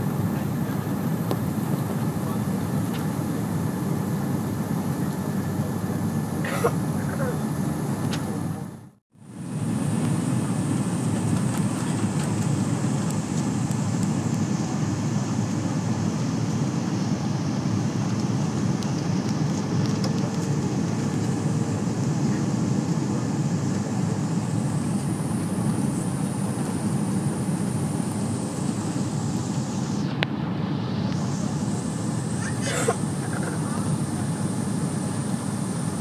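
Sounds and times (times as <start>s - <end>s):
airliner cabin engine and airflow rush: 0.0s - 36.0s
high engine whine: 0.0s - 36.0s.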